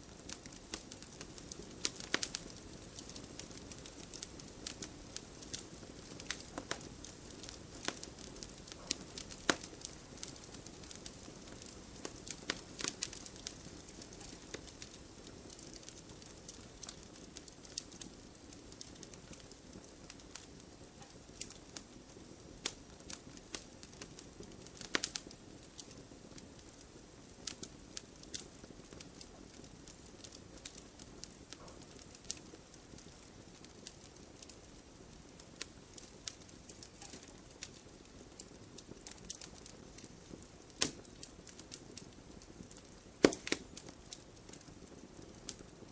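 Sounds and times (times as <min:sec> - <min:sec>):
campfire crackling: 0:00.0 - 0:45.9
fire popping: 0:00.0 - 0:45.9
rush of burning: 0:00.0 - 0:45.9.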